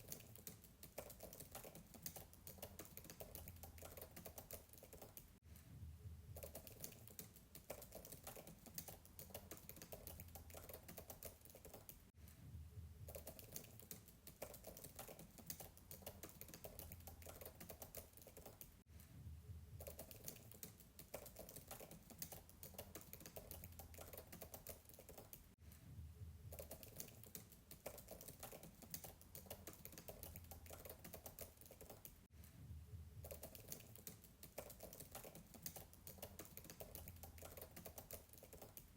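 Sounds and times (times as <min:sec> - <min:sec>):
fast typing on a keyboard: 0:00.0 - 0:05.4, 0:06.4 - 0:12.1, 0:13.1 - 0:18.8, 0:19.8 - 0:25.6, 0:26.5 - 0:32.3, 0:33.2 - 0:38.9.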